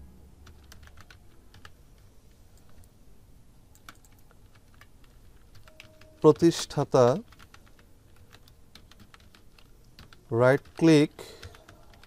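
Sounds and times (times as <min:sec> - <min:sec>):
keyboard typing: 0:00.4 - 0:02.9, 0:03.7 - 0:12.0.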